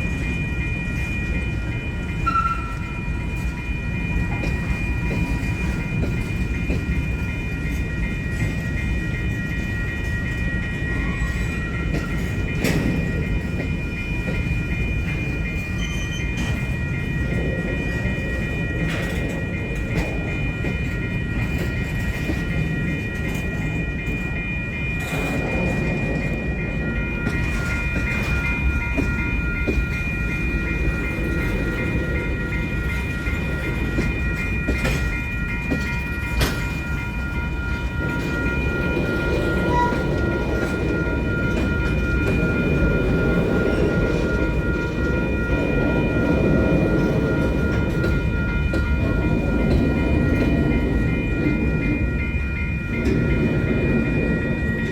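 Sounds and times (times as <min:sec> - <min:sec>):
freight train rumbling past: 0:00.0 - 0:54.9
high-pitched ringing tones: 0:00.0 - 0:54.9
railcar clanks: 0:00.0 - 0:54.9.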